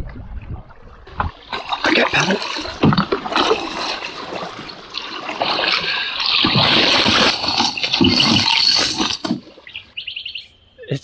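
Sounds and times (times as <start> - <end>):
water trickling past hull: 0.0 - 10.4
paddle strokes splashing water: 0.4 - 10.0
branches brushing along canoe: 1.0 - 10.6.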